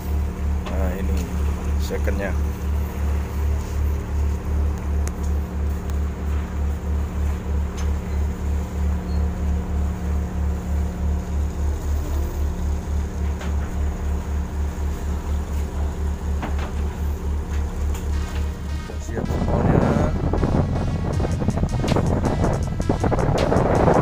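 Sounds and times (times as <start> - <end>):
diesel engine throbbing: 0.0 - 24.0
sea and wind noise: 0.0 - 24.0.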